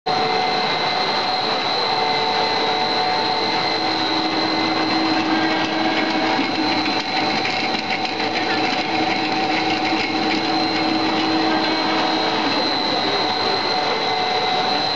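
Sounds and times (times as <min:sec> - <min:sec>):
high machine whine: 0:00.0 - 0:14.9
extruder machinery humming: 0:00.1 - 0:14.9.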